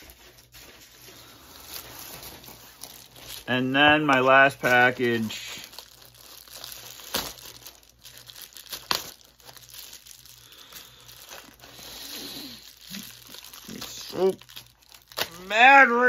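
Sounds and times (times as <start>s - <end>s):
packaging crinkling and tearing: 0.0s - 16.0s.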